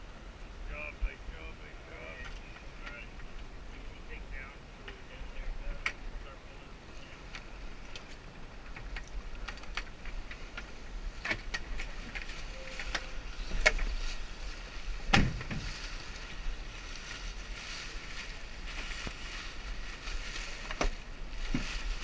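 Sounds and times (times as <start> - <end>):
water noise: 0.0 - 22.0
wind noise: 0.0 - 22.0.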